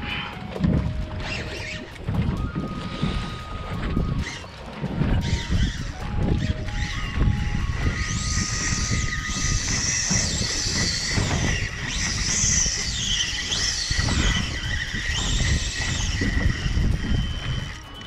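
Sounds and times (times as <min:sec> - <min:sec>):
high gliding squeals: 0:00.0 - 0:18.0
rough wind and motion noise: 0:00.0 - 0:18.0.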